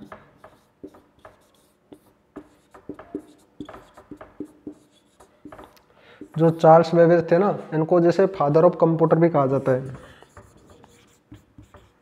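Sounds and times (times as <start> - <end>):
marker pen writing on whiteboard: 0.0 - 7.6, 9.3 - 12.0.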